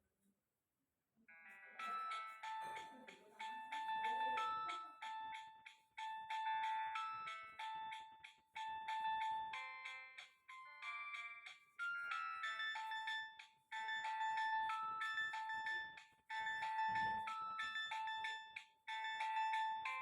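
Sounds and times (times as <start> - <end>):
mobile phone ringtone beeping melody: 1.5 - 20.0.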